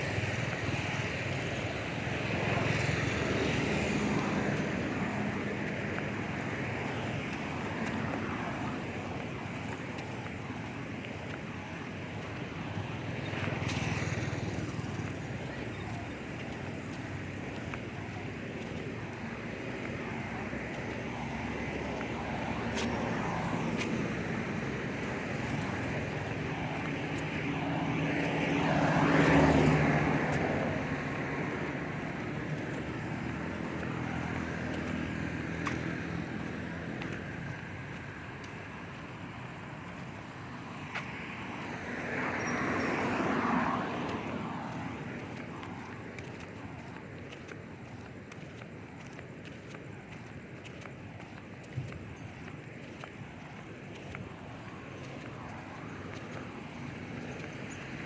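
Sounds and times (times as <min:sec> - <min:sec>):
motor vehicles passing by: 0:00.0 - 0:58.0
outdoor background noise: 0:00.0 - 0:58.0.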